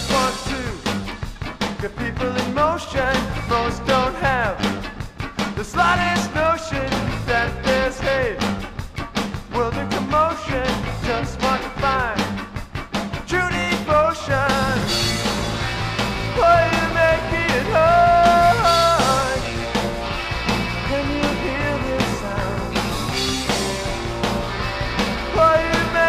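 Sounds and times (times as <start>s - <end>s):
indie rock band playing: 0.0s - 26.0s.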